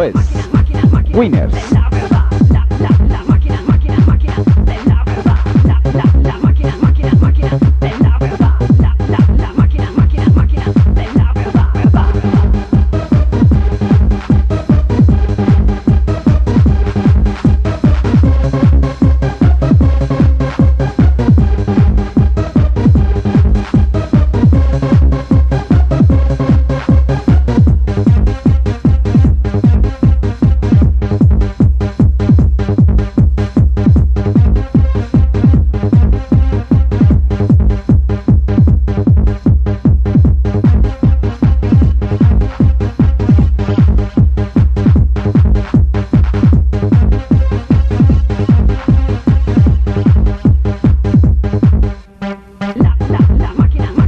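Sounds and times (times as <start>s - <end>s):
heavy kick drum: 0.0s - 52.0s, 52.8s - 54.0s
techno dance music: 0.0s - 54.0s.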